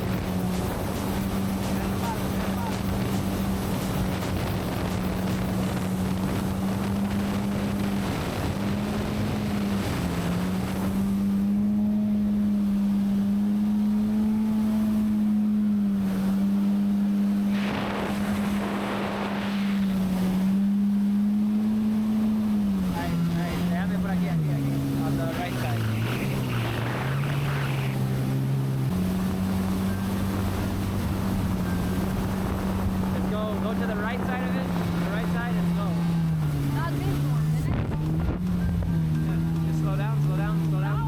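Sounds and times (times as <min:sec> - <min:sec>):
jet ski engine running: 0:00.0 - 0:41.0
wind and water rushing: 0:00.0 - 0:41.0.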